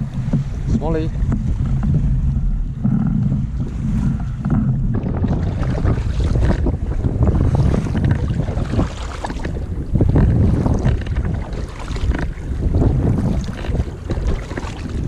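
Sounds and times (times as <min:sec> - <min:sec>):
paddle strokes in water: 0:00.0 - 0:15.0
water slapping against kayak hull: 0:00.0 - 0:15.0
wind buffeting microphone: 0:00.0 - 0:15.0.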